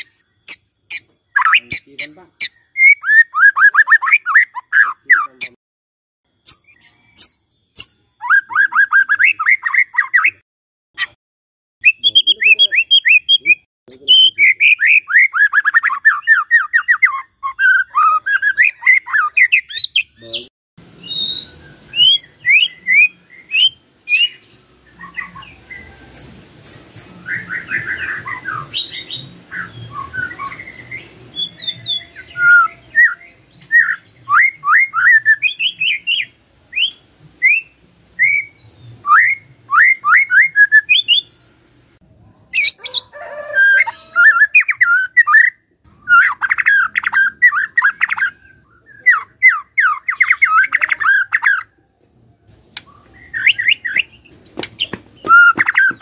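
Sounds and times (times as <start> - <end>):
bird singing whistled notes: 0.0 - 5.2, 6.4 - 10.4, 11.8 - 41.8, 42.6 - 51.7, 52.8 - 56.0.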